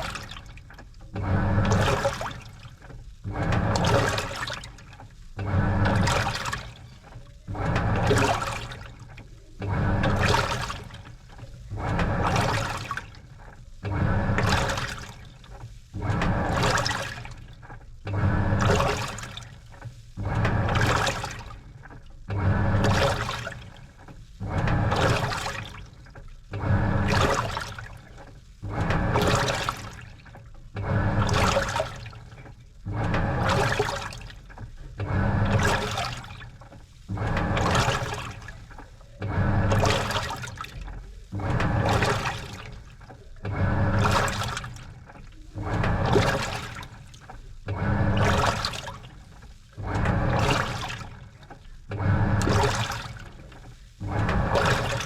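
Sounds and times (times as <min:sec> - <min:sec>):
washing machine sloshing: 0:00.0 - 0:55.0.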